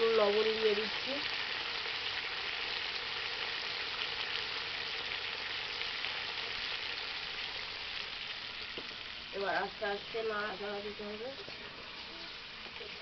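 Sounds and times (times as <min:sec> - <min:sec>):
curry sizzling in oil: 0:00.0 - 0:13.0.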